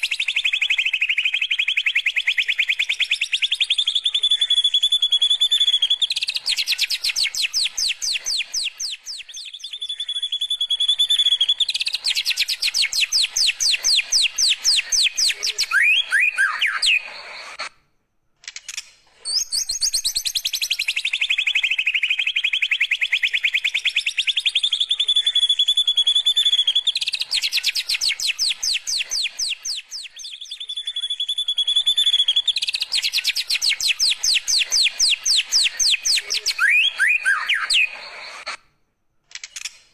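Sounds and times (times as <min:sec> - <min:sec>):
songbird trilling and whistling: 0:00.0 - 0:17.7, 0:19.2 - 0:38.6.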